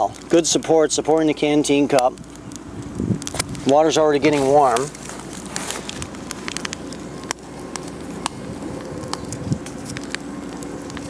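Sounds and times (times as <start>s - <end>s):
twigs popping and snapping: 0.0s - 11.0s
wood fire crackling: 0.0s - 11.0s.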